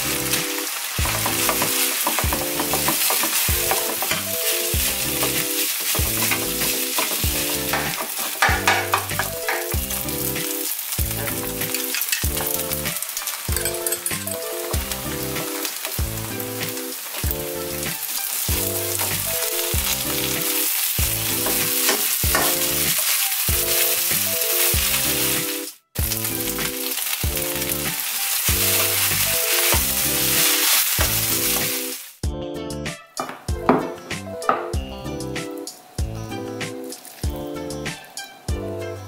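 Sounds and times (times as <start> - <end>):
rice and egg sizzling in pan: 0.0 - 32.2, 34.8 - 38.6
background music with beat: 0.0 - 39.0.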